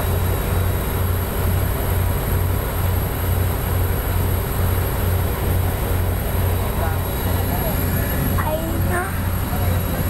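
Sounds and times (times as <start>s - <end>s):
boat engine droning: 0.0s - 10.0s
water churning along hull: 0.0s - 10.0s.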